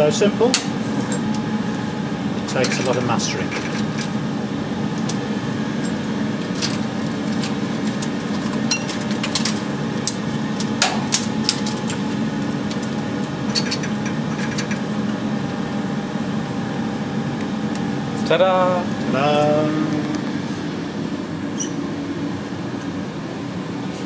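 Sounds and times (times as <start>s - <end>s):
machinery and ventilation hum: 0.0s - 24.0s.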